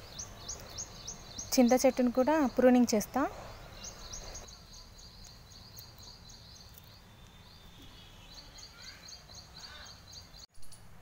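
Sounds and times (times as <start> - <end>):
small bird chirping: 0.0 - 10.5.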